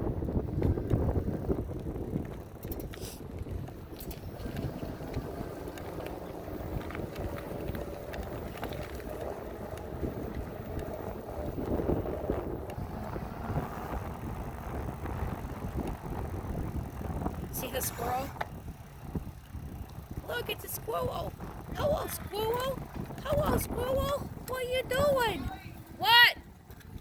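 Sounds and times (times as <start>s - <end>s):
faint road and drivetrain noise: 0.0s - 27.0s
wind rushing over microphone: 0.0s - 27.0s.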